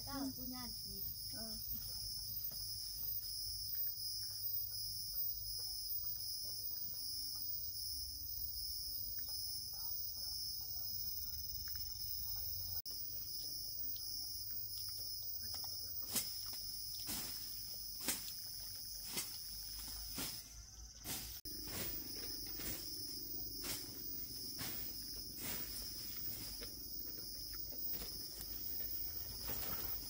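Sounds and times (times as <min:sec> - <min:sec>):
insect chorus chirring: 0:00.0 - 0:30.0.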